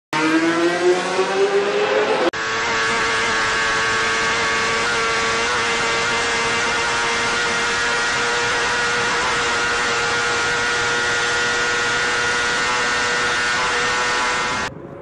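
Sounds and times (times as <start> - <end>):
racing motorcycle engine high revs: 0.1 - 14.7.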